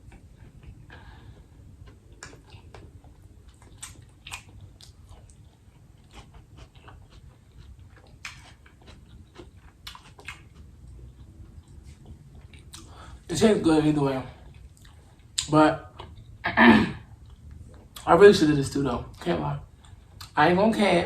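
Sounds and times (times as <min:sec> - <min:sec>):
person chewing food: 0:00.0 - 0:13.3, 0:14.4 - 0:16.4, 0:17.0 - 0:18.1, 0:19.1 - 0:20.4.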